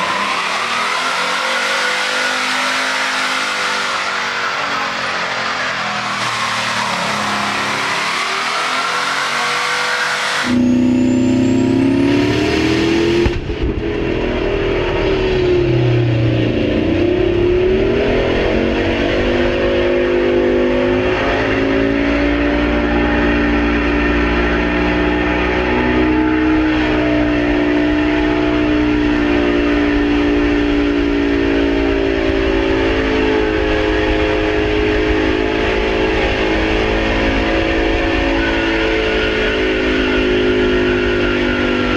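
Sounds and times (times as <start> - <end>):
diesel engine running at high rpm: 0.0 - 41.9.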